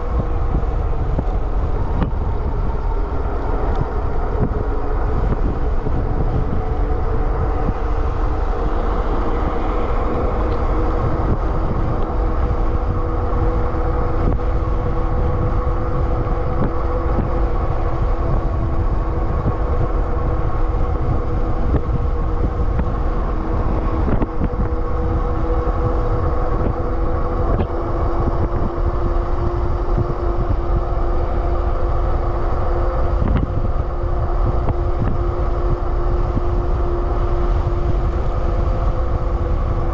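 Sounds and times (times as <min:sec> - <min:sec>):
electric motor whine: 0:00.0 - 0:39.9
tyres on asphalt: 0:00.0 - 0:39.9
wind buffeting microphone: 0:00.0 - 0:39.9.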